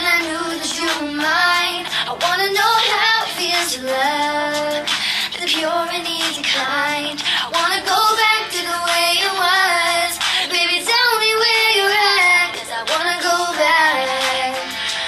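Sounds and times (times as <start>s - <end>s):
young female voice singing: 0.0s - 14.8s
pop backing music: 0.0s - 15.0s.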